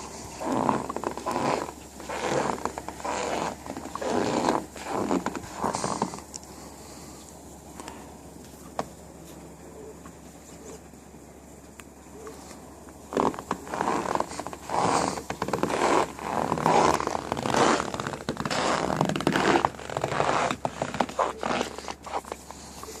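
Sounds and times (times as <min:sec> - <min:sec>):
noisy crunching scrapes: 0:00.0 - 0:23.0.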